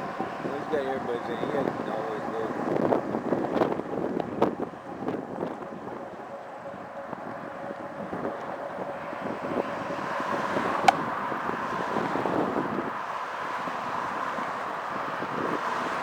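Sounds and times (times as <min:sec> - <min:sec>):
bicycle road noise: 0:00.0 - 0:16.0
wind on microphone: 0:00.0 - 0:16.0.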